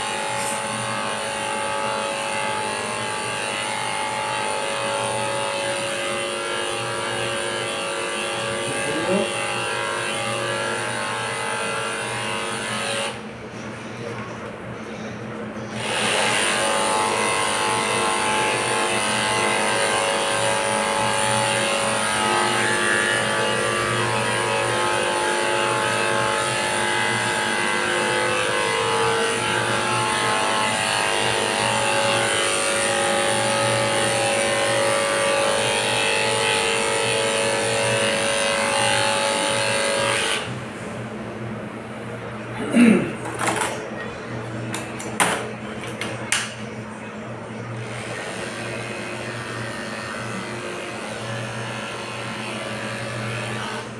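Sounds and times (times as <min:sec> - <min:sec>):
electric pet clipper motor hum: 0:00.0 - 0:13.3, 0:15.7 - 0:40.6, 0:47.8 - 0:53.9.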